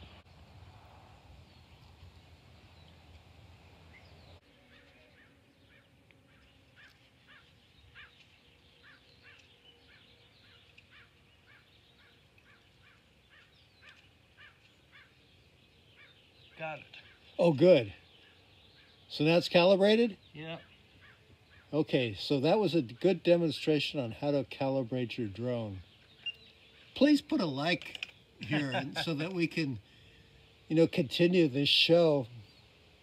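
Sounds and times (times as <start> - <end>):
bird chirping: 3.9 - 33.0.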